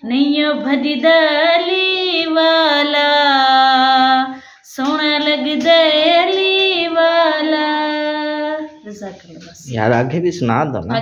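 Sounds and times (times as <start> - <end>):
woman singing unaccompanied: 0.0 - 9.6.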